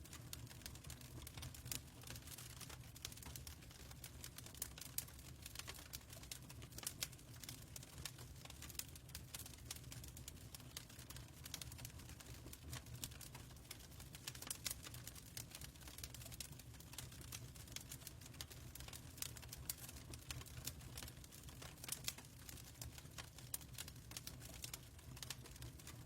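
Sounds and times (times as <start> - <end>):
fireplace crackling: 0.0 - 26.0.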